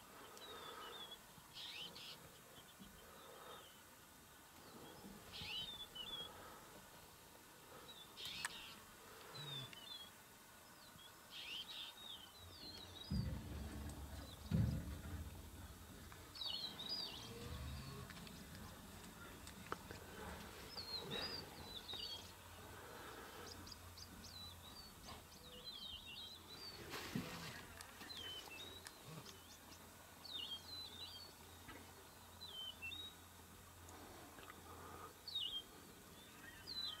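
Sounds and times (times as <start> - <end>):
faint low hum: 0.1 - 37.0.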